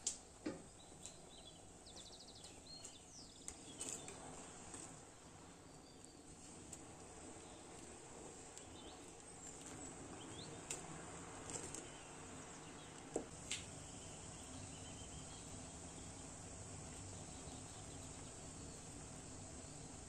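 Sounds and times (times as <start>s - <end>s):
pot simmering with hiss: 0.0s - 20.0s.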